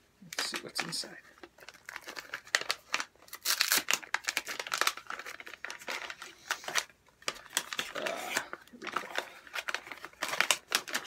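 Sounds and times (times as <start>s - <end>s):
paper envelope tearing and crinkling: 1.6s - 11.0s.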